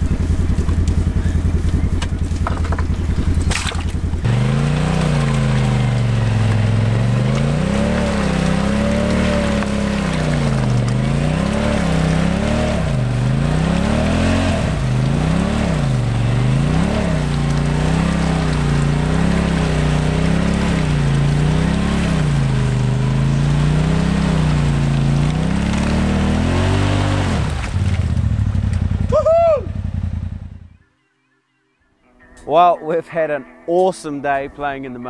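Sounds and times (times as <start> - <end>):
engine revving up and down: 0.0 - 30.7.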